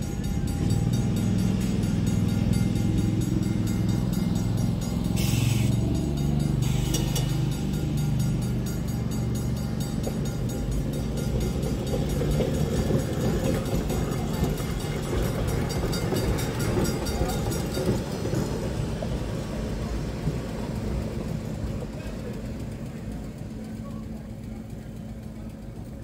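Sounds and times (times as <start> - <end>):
streetcar wheels on rails: 0.0 - 26.0.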